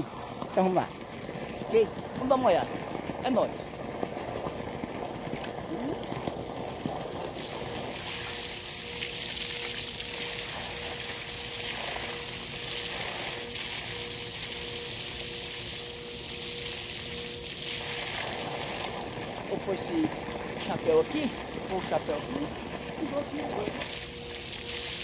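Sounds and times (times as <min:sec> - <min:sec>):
water splashing onto person: 0:00.0 - 0:25.0.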